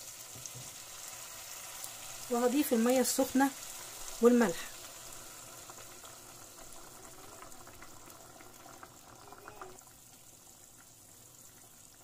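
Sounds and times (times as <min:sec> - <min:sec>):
pot simmering quietly: 0:00.0 - 0:12.0
sauce bubbling: 0:00.0 - 0:12.0.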